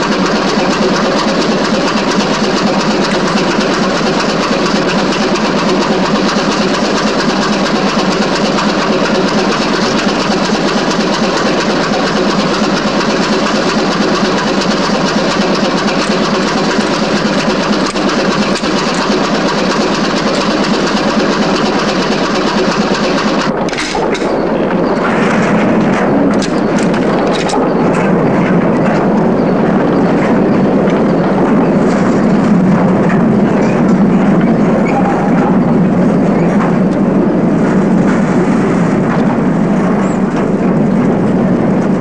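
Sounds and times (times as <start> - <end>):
sharp clicks and knocks: 0.0 - 37.1
train engine drone: 0.0 - 42.0
train wheel clatter: 0.0 - 42.0.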